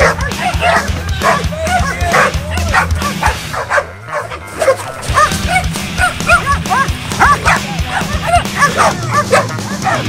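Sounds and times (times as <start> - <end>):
background music: 0.0 - 10.0
dogs barking and yipping: 0.0 - 10.0.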